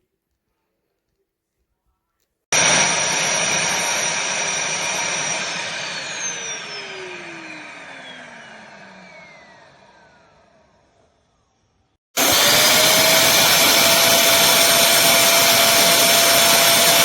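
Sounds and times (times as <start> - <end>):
vacuum motor spinning down: 2.6 - 17.0.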